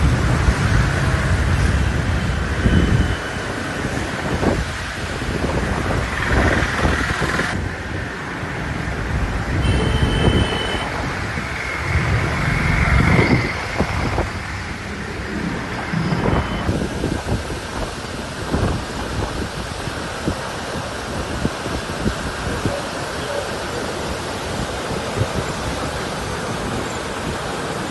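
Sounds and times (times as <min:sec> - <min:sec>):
road traffic: 0:00.0 - 0:27.9
wind: 0:00.0 - 0:27.9.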